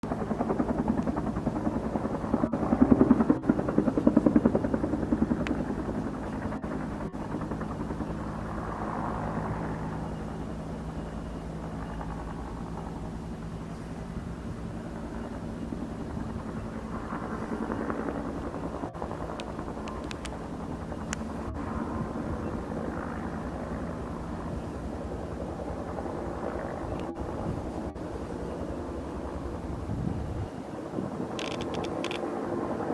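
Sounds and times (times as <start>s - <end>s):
helicopter engine drone: 0.0s - 32.9s
helicopter rotor chop: 0.0s - 32.9s.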